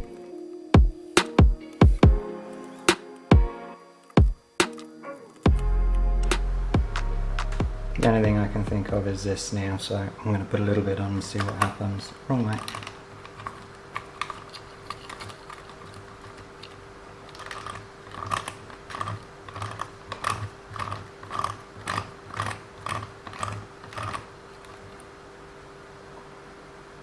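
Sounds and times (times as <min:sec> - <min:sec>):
faint steady whine: 0:00.0 - 0:27.0.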